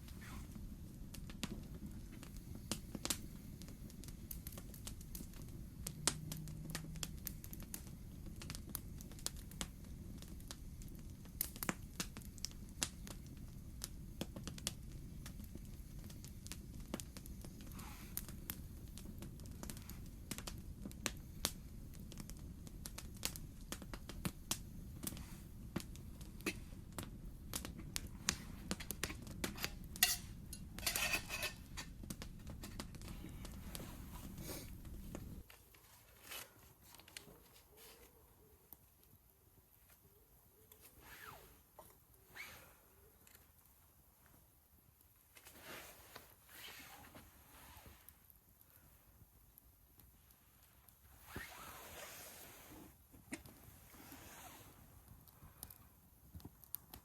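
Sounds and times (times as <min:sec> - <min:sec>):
campfire crackling and popping: 0:00.0 - 0:37.6, 0:48.0 - 0:51.7, 0:52.7 - 0:57.0.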